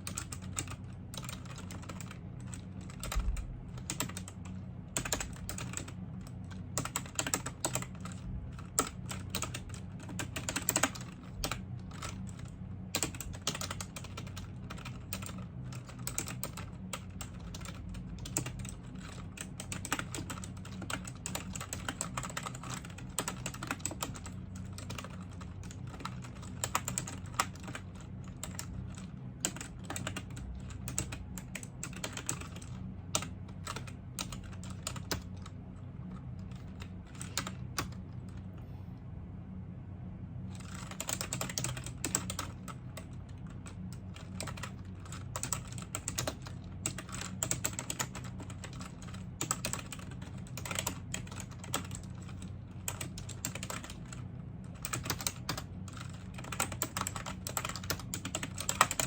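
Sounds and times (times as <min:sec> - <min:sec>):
typing on a keyboard: 0:00.0 - 0:35.5, 0:36.1 - 0:38.4, 0:40.6 - 0:59.0.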